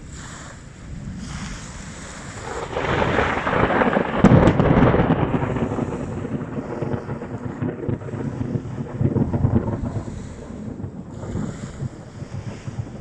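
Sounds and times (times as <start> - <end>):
thunder rumbling: 1.8 - 13.0.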